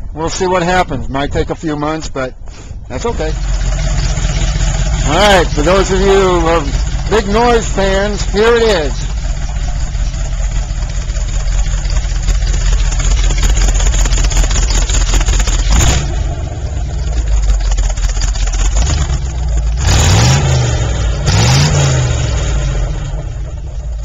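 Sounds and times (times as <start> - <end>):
engine revving: 3.0 - 24.0.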